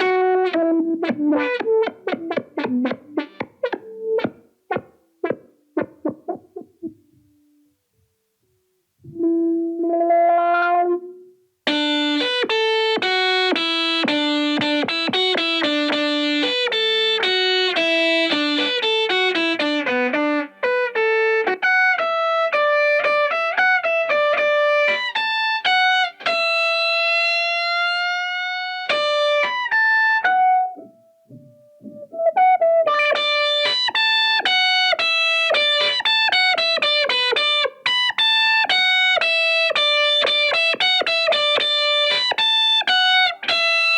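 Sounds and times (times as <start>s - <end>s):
buzzy synth guitar lead: 0.0s - 7.7s, 9.0s - 43.9s.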